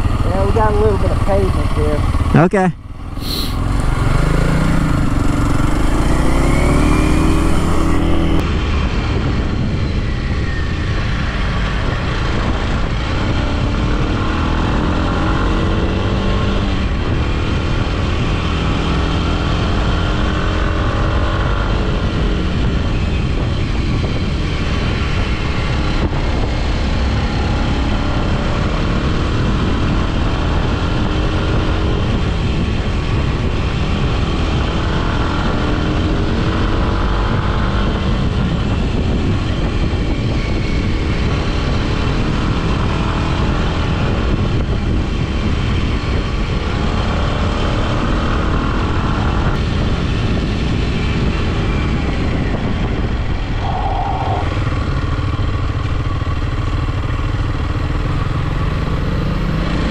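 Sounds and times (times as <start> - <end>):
motorcycle engine accelerating: 0.0 - 59.9
road and wind noise: 0.0 - 59.9.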